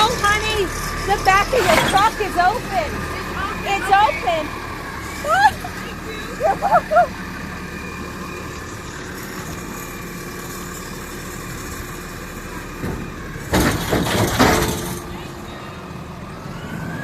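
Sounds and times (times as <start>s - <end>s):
garbage truck engine idling: 0.0s - 17.0s.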